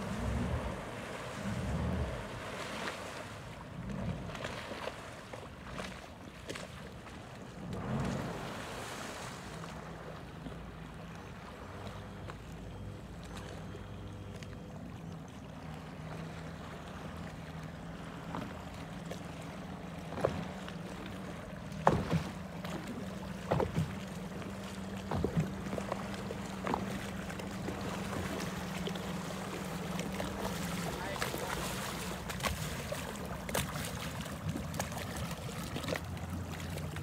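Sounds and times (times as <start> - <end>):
boat engine humming: 0.0 - 37.0
water splashes: 0.0 - 37.0.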